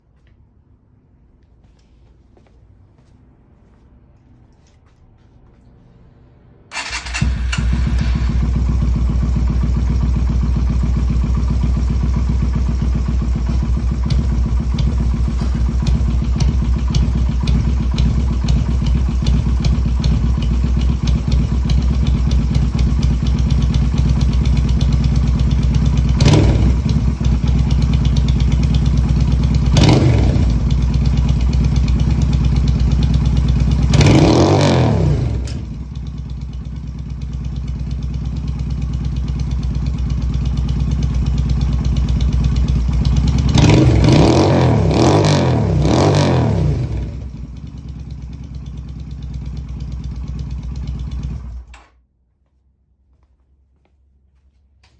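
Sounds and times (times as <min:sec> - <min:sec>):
motorcycle engine idling: 0:06.7 - 0:51.7.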